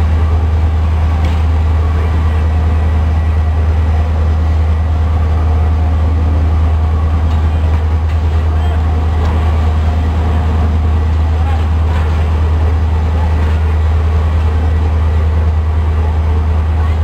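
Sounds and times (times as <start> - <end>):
train coaches rolling past: 0.0 - 17.0.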